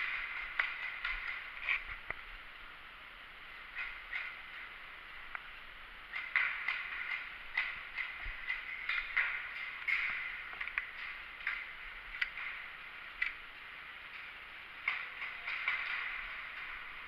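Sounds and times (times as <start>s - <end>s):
sharp clicks and knocks: 0.0s - 2.2s, 3.7s - 17.0s
steady hiss: 0.0s - 17.0s.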